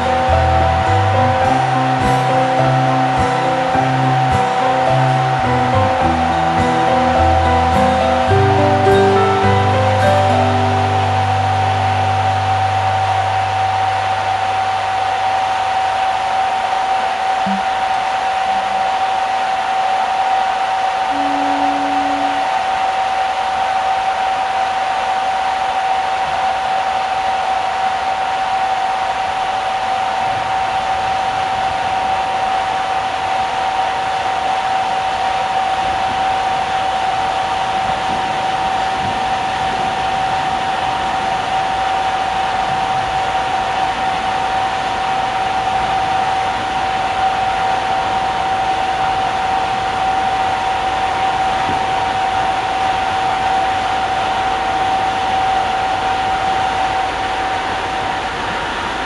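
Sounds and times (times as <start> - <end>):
machinery and ventilation hum: 0.0 - 59.0
mid-pitched whine: 0.0 - 59.0.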